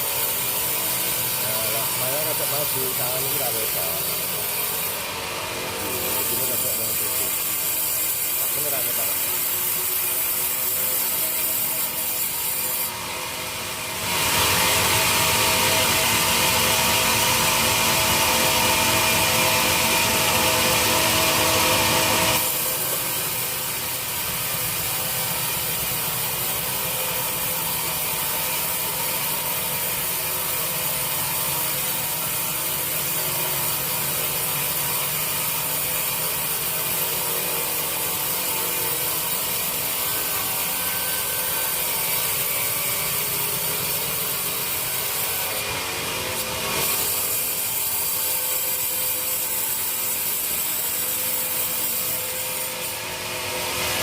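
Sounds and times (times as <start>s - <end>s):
saw cutting through wood: 0.0s - 54.0s.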